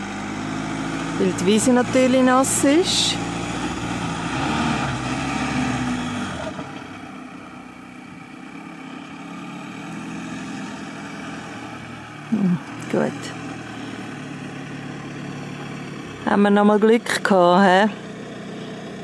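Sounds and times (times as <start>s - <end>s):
van engine revving hard: 0.0s - 19.0s.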